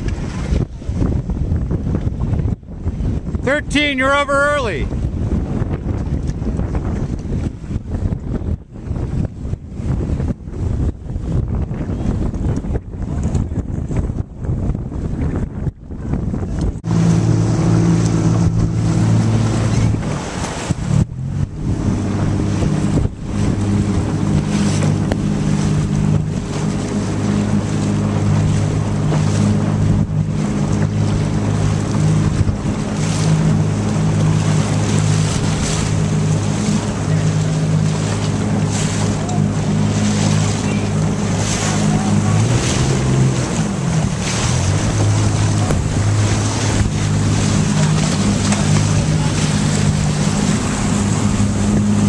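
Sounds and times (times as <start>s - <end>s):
outboard motor running: 0.0s - 52.0s
water splashing against hull: 0.0s - 52.0s
wind buffeting microphone: 0.0s - 52.0s.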